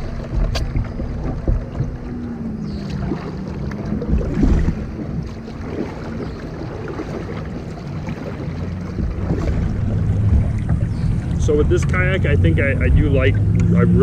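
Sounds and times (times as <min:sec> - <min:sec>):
water splashing around kayak: 0:00.0 - 0:14.0
wind on microphone: 0:00.0 - 0:14.0.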